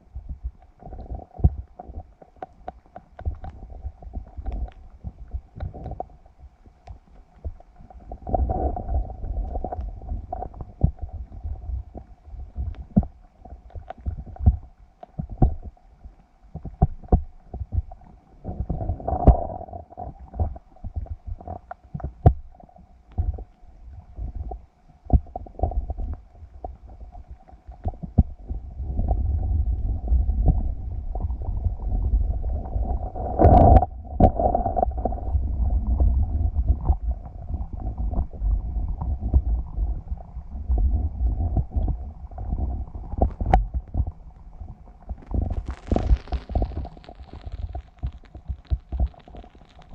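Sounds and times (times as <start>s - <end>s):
faint steady hum: 0.0s - 49.9s
underwater knocks and clicks: 0.0s - 49.9s
underwater low rumbling: 0.0s - 49.9s.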